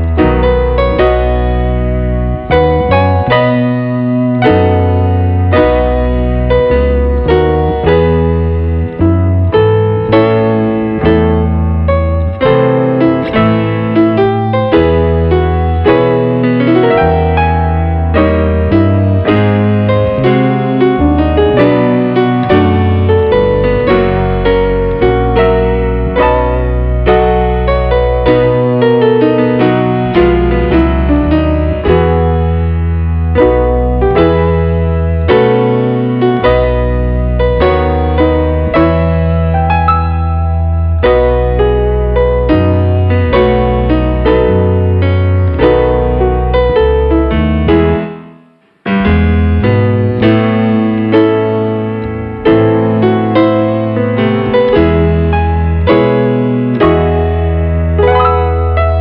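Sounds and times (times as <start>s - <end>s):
deep bass notes: 0.0s - 59.0s
slow piano chords: 0.0s - 59.0s.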